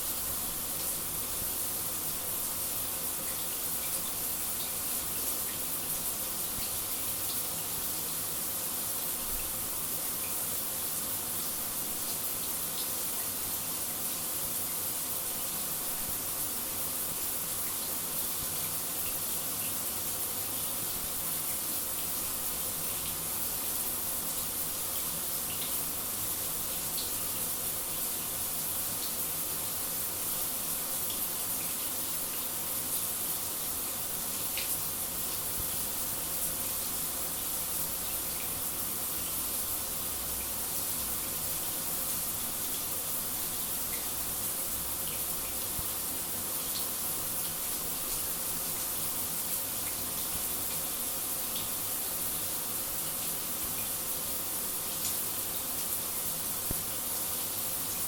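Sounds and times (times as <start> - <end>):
shower water hissing: 0.0 - 58.0.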